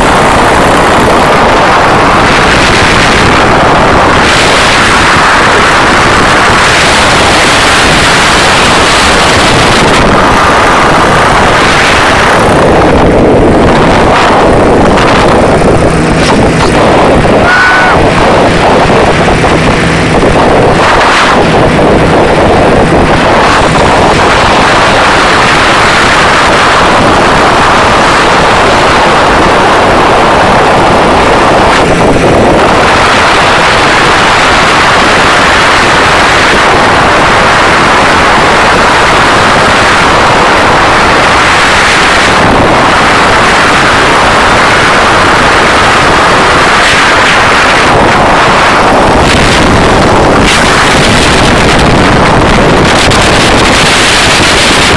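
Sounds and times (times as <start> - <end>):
aircraft engine roar: 0.0 - 54.9
wind buffeting microphone: 0.0 - 54.9.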